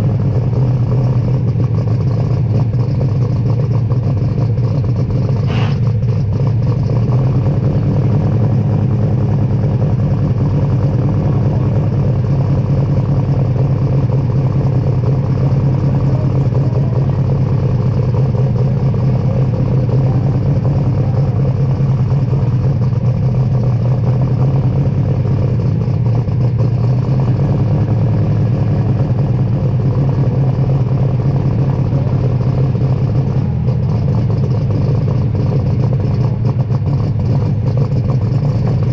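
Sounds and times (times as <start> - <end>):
diesel engine running loudly: 0.0 - 38.9.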